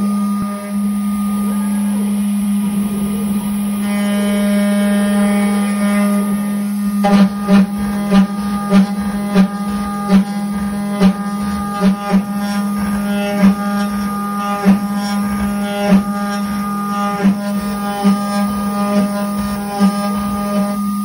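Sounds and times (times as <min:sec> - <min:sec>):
cnc router spindle humming: 0:00.0 - 0:21.0
end mill cutting aluminum: 0:00.0 - 0:21.0.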